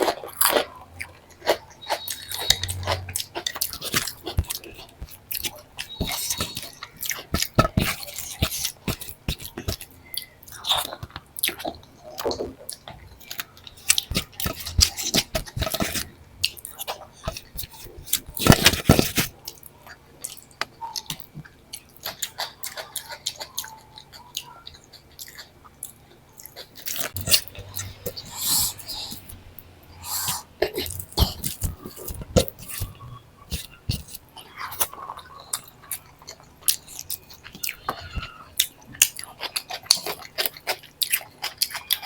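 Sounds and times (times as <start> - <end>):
food crunching: 0.0 - 42.0
person chewing food: 0.0 - 42.0.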